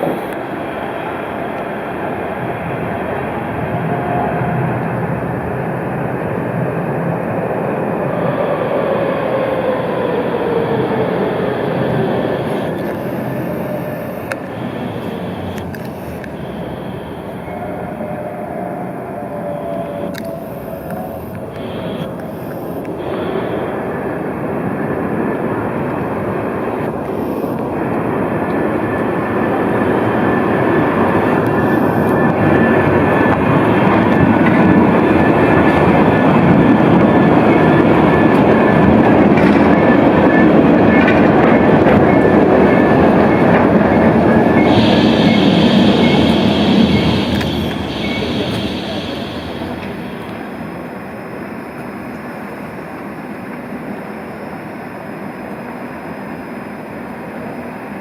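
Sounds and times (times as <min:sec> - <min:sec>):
tram motors whining: 0:00.0 - 0:58.0
tram rolling rumble: 0:00.0 - 0:58.0.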